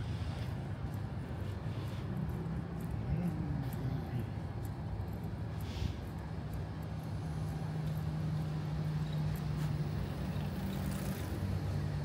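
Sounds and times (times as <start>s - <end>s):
city street noise: 0.0s - 12.0s
vehicle engine humming: 0.0s - 12.0s.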